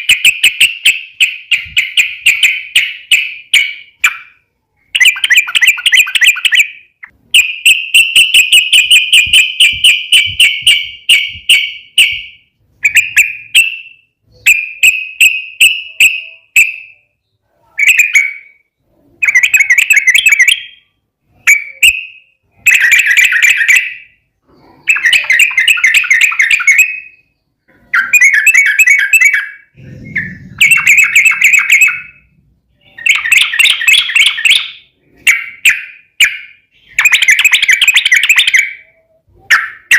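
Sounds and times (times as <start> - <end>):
bird chattering song with trills: 0.0 - 39.9.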